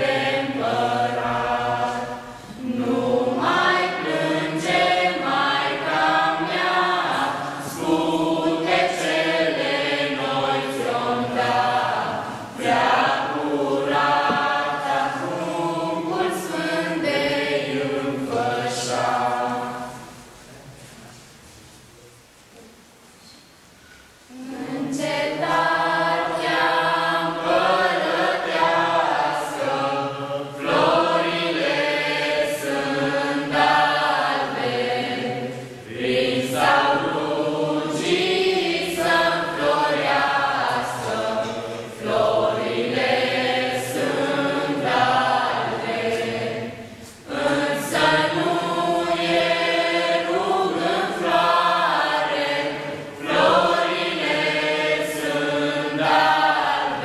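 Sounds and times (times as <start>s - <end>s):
young voices singing together: 0.0s - 21.6s, 23.6s - 57.0s.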